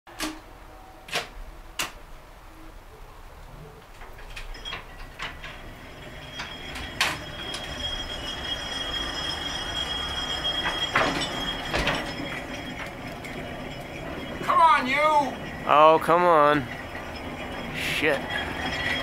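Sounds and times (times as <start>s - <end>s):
electric locomotive whine: 0.2s - 19.0s
wheels clicking on rails: 3.5s - 19.0s.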